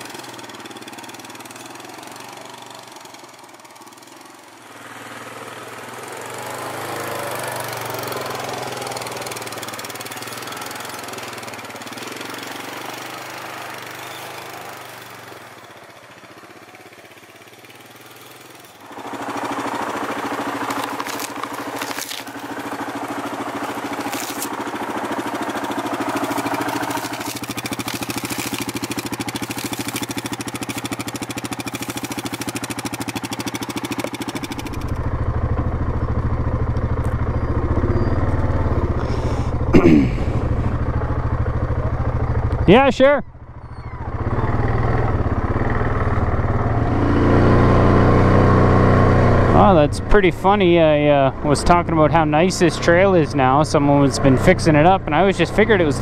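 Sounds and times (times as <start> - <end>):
quad bike engine: 0.0 - 56.0.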